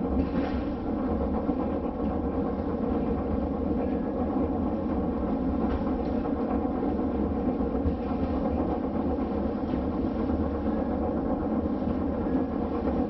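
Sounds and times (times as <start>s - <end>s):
funicular car rumbling: 0.0s - 13.0s.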